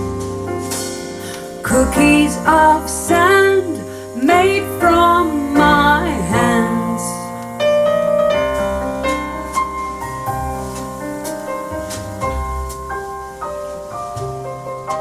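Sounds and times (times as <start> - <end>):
low bass line: 0.0 - 3.8, 4.4 - 14.6
piano notes ringing: 0.0 - 15.0.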